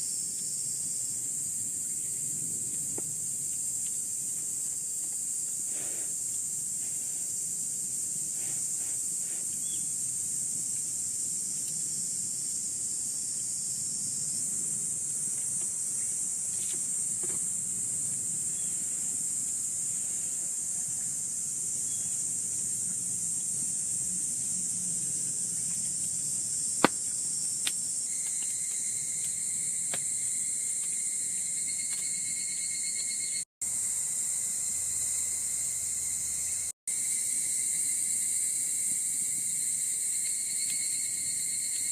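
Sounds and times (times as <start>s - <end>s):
crickets chorus: 0.0s - 41.9s.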